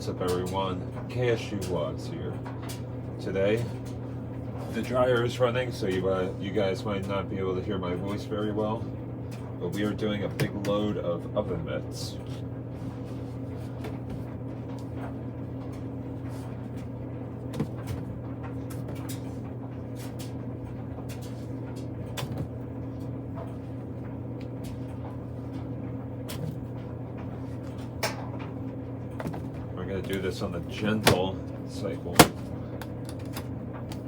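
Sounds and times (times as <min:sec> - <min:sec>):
clothes dryer humming: 0:00.0 - 0:34.0.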